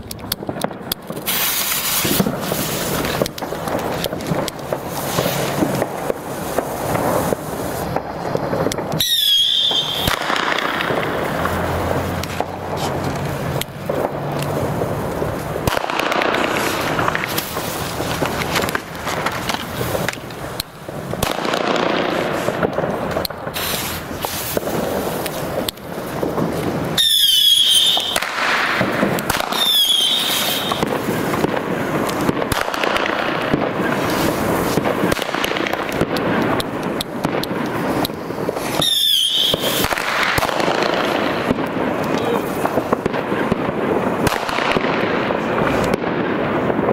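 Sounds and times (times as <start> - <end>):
firecracker sharp cracks: 0.0 - 46.9
firecrackers hissing crackle: 0.0 - 46.9.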